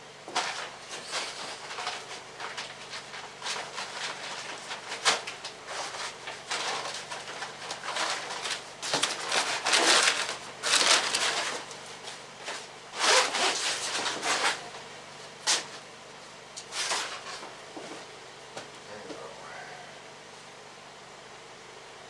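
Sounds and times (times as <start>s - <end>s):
rustling and scuffing: 0.2s - 18.7s.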